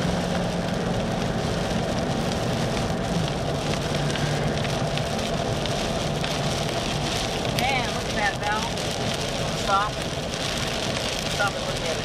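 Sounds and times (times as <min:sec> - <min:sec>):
car engine hum: 0:00.0 - 0:12.0
tyres hissing on wet road: 0:00.0 - 0:12.0.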